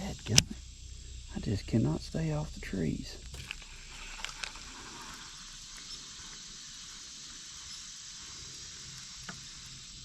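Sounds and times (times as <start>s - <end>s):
high-pitched outdoor hiss: 0.0s - 10.0s.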